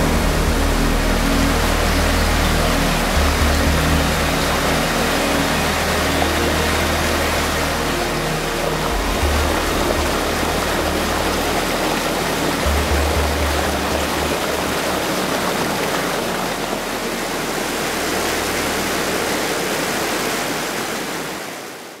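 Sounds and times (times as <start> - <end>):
low music notes: 0.0 - 21.2
waterfall rushing over rocks: 0.0 - 22.0.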